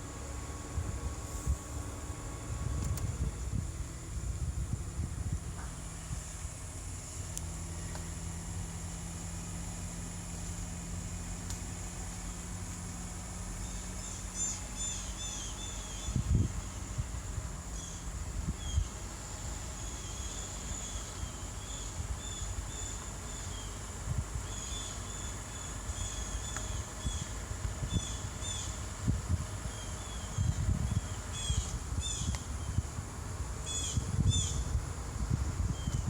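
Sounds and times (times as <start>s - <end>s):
low rumbling: 0.0s - 36.0s.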